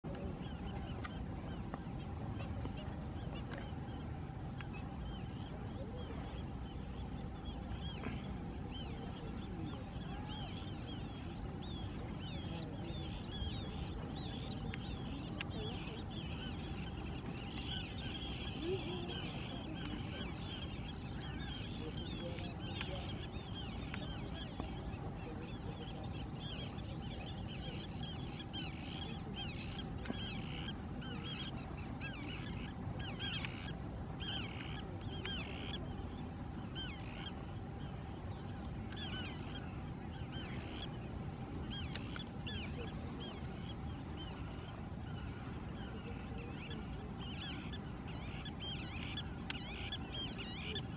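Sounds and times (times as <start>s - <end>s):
faint hum: 0.0s - 50.9s
chorus of birds calling: 0.1s - 50.9s.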